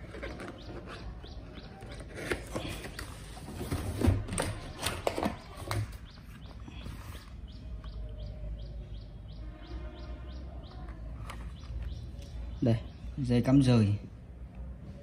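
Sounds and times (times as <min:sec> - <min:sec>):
bird chirping: 0:00.0 - 0:14.1.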